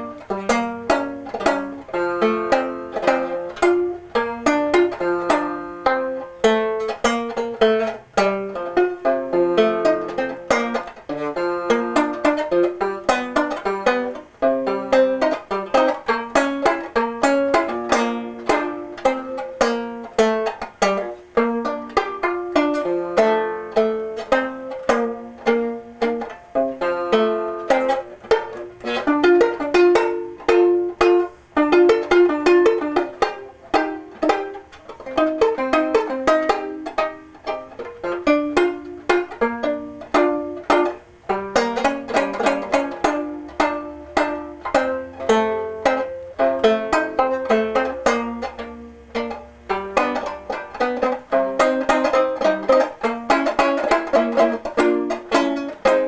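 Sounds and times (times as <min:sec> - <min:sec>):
fingerpicked banjo: 0:00.0 - 0:56.0.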